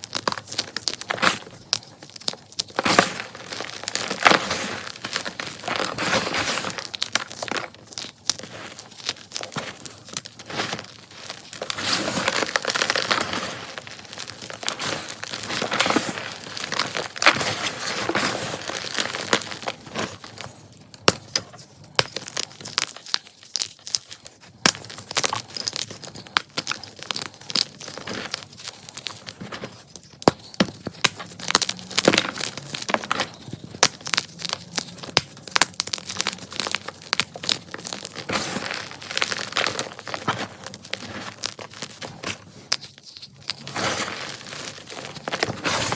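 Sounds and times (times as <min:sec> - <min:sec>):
chalk being crushed by hand: 0:00.0 - 0:45.9
sharp crackles and snaps: 0:00.0 - 0:45.9.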